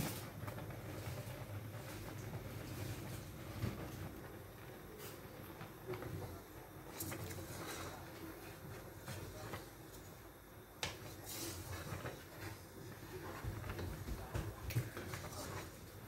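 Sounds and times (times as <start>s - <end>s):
stirring thick soup: 0.0s - 16.0s.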